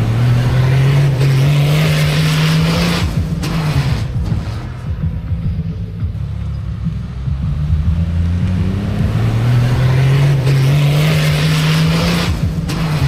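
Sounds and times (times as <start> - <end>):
suv engine accelerating hard: 0.0 - 13.0.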